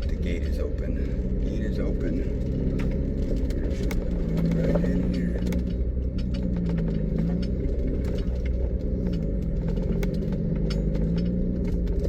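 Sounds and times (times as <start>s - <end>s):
car engine running at low speed: 0.0s - 12.0s
light clicks and rattles: 0.0s - 12.0s.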